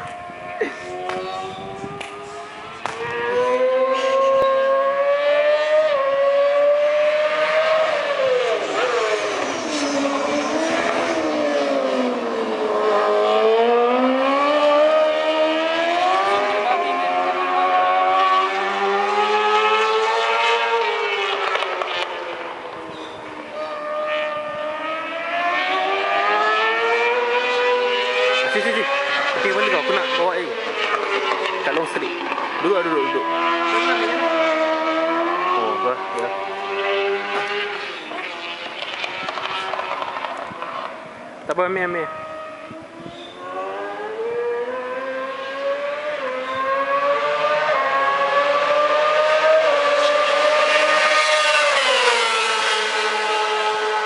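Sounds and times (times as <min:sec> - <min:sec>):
racing motorcycle engine revving: 0:00.0 - 0:54.0.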